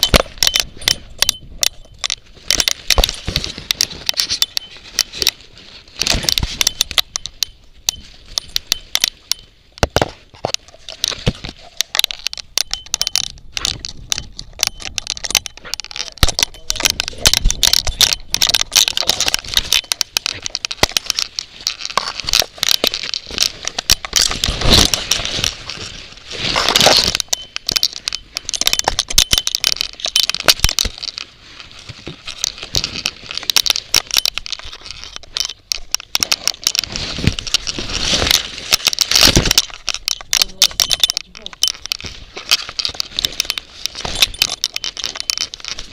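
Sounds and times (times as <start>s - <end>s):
leaves and twigs scraping camera: 0.0s - 45.9s.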